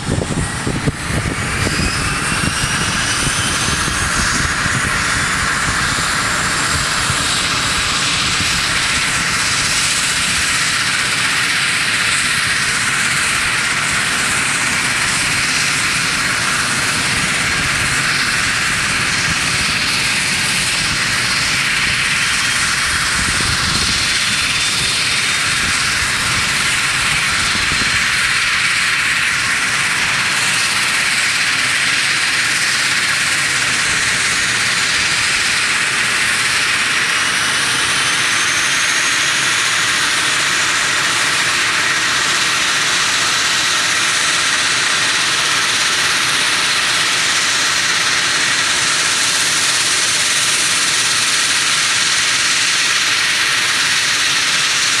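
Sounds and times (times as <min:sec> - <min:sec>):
high whine rising in pitch: 0:00.0 - 0:55.0
turboprop engines idling: 0:00.0 - 0:55.0.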